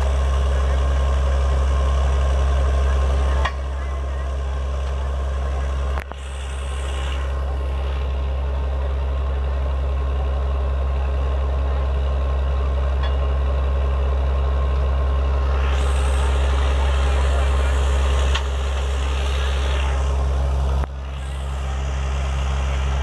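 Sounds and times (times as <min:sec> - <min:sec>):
drilling rig engine drone: 0:00.0 - 0:23.0
thin steady whine: 0:00.0 - 0:23.0.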